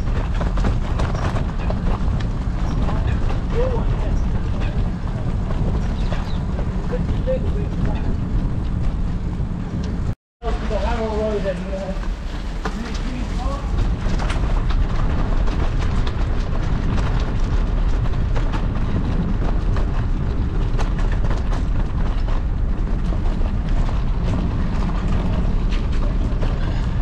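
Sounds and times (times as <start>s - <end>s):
bicycle clicks and rattles: 0.0s - 10.2s, 12.0s - 27.0s
tyres on gravel and wet path: 0.0s - 27.0s
wind buffeting microphone: 0.0s - 27.0s.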